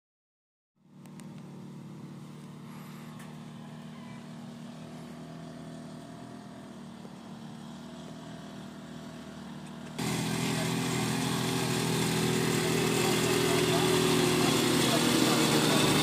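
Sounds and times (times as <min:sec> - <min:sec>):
small engine running: 0:00.8 - 0:16.0.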